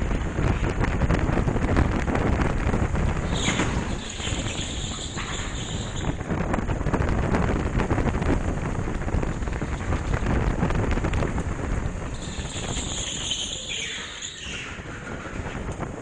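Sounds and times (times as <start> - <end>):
go-kart engine rumble: 0.0 - 16.0
wind buffeting microphone: 0.0 - 16.0.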